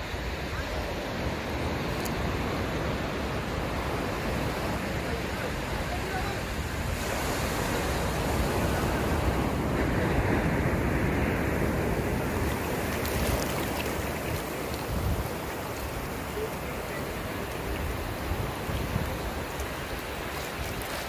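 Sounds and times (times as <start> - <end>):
surf washing over sand: 0.0 - 21.0
wind rumble on microphone: 0.0 - 21.0.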